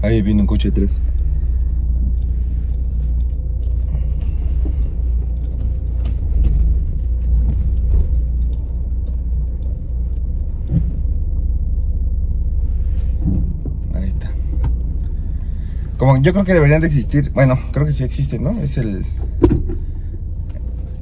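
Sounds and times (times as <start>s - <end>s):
car engine rumble: 0.0s - 21.0s
road noise: 0.0s - 21.0s.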